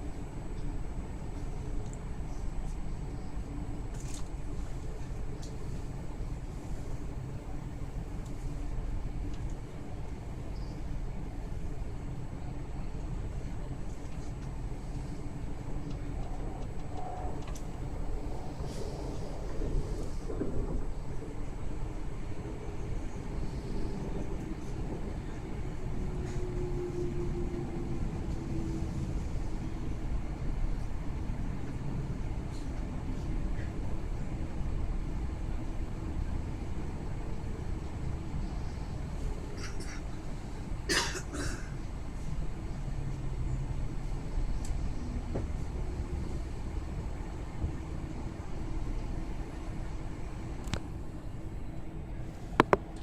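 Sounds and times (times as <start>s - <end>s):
train rumbling inside carriage: 0.0s - 53.0s.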